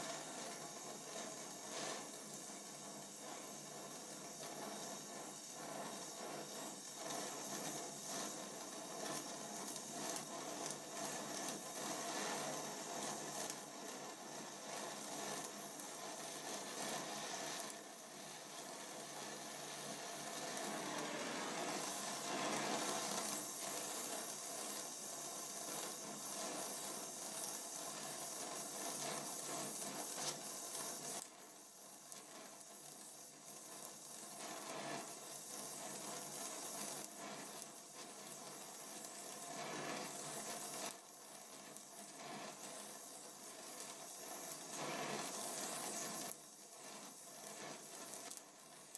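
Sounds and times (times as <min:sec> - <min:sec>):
gas torch flame hissing: 0:00.0 - 0:48.9.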